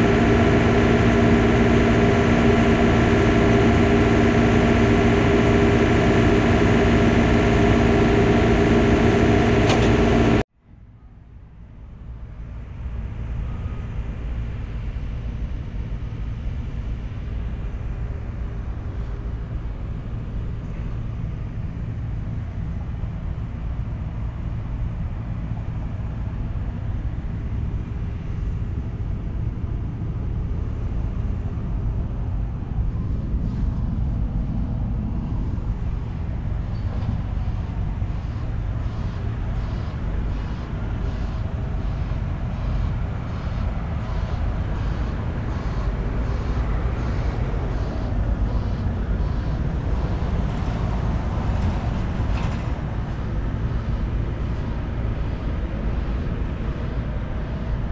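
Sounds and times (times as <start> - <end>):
low engine rumble: 0.0 - 10.5, 17.5 - 57.9.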